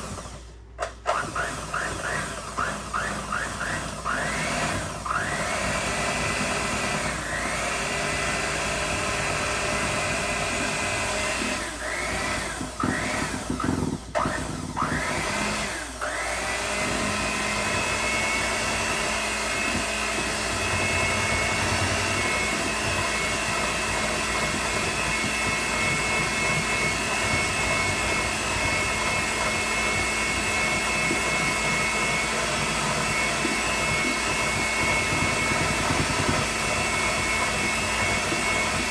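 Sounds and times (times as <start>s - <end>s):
electric hand mixer running: 0.0s - 38.9s.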